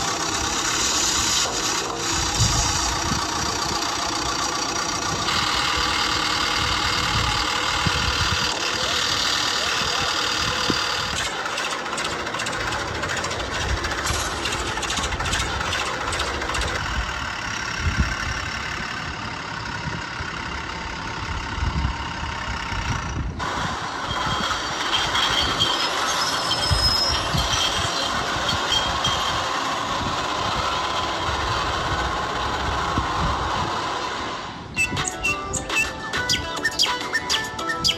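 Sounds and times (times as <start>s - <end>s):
construction machinery engine: 0.0s - 37.9s.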